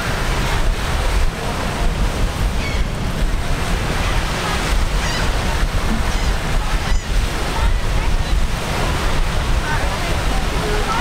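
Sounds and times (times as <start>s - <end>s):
ocean waves washing in: 0.0s - 11.0s
wind buffeting microphone: 0.0s - 11.0s.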